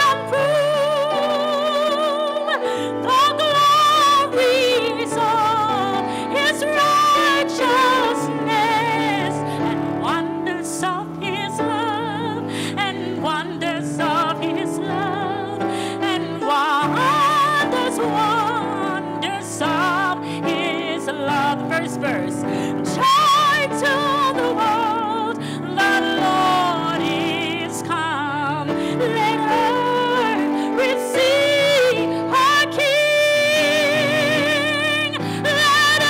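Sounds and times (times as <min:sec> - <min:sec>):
woman singing with vibrato: 0:00.0 - 0:36.0.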